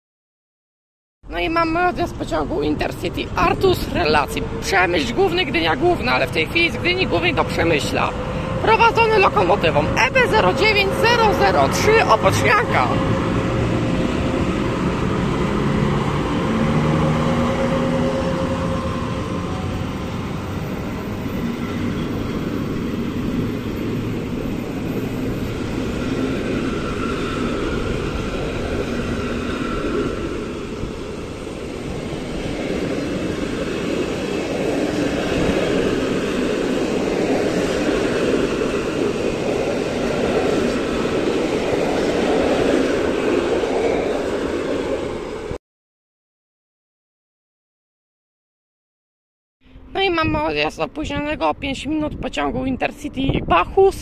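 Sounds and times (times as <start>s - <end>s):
electric locomotive hum: 1.4s - 45.6s
train wheels rumbling on rails: 1.6s - 45.6s.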